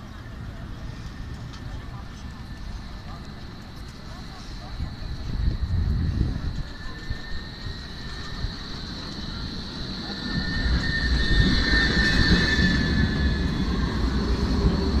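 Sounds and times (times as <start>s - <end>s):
vehicle low rumble: 0.0s - 15.0s
high whining tones: 2.4s - 15.0s.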